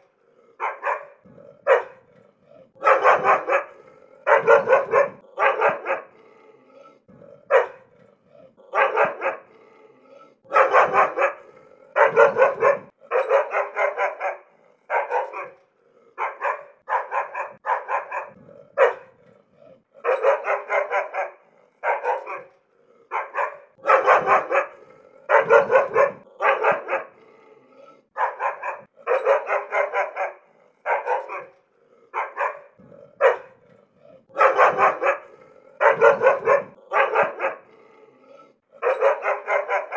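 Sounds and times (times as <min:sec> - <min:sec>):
dog barking angrily: 0:00.0 - 0:39.9.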